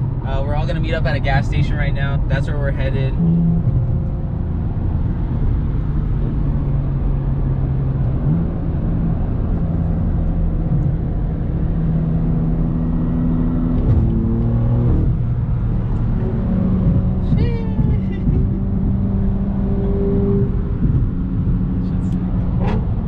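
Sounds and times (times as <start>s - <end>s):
car engine: 0.0s - 23.0s
road noise: 0.0s - 23.0s.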